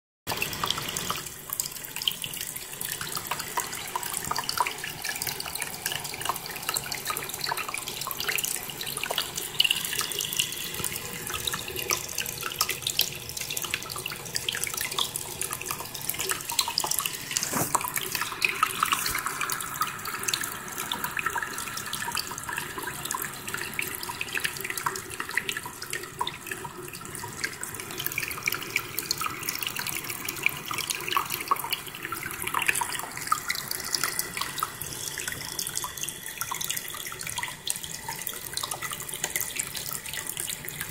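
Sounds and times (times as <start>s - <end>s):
tabletop fountain splashing: 0.3s - 40.9s.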